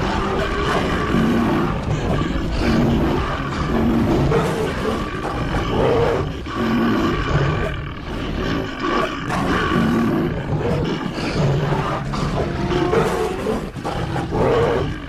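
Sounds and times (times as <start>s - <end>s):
wild animal roars and calls: 0.0s - 15.0s.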